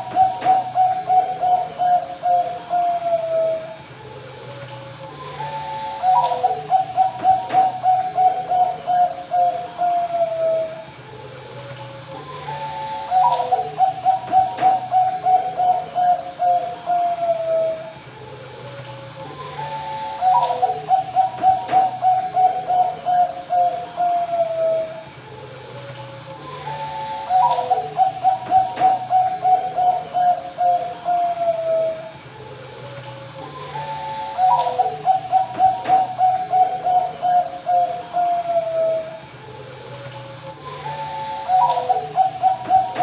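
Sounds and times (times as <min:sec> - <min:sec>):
dove cooing: 0:00.0 - 0:43.0.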